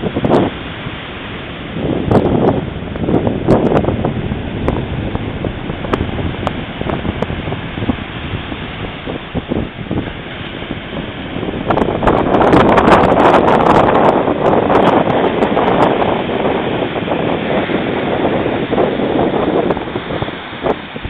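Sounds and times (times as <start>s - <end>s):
ocean surf breaking: 0.0s - 21.0s
wind buffeting microphone: 0.0s - 21.0s.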